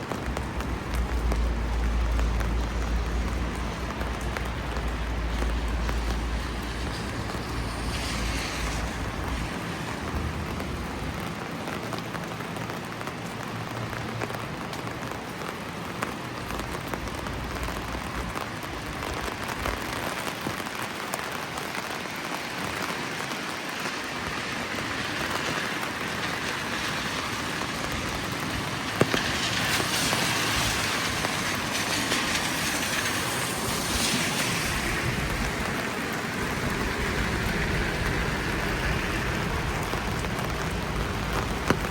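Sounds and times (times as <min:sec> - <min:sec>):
rain falling on street: 0:00.0 - 0:41.9.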